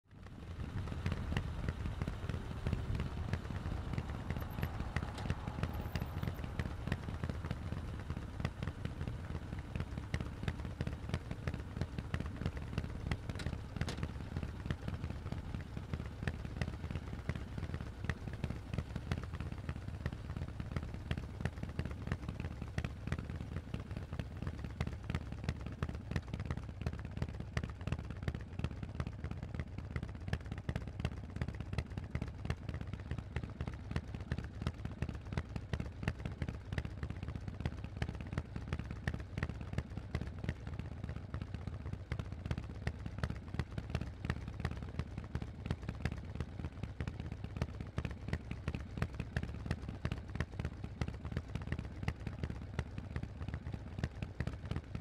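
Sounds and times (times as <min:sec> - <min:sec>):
motorcycle engine running: 0:00.1 - 0:55.0.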